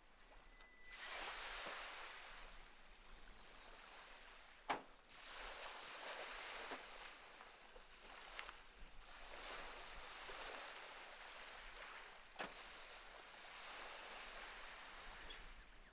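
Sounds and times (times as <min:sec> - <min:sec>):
small waves washing onto sand: 0:00.9 - 0:15.8.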